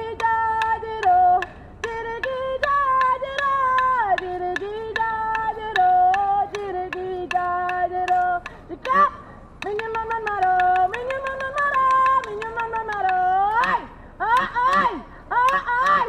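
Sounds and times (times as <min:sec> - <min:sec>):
sharp rhythmic clicks: 0:00.0 - 0:16.0.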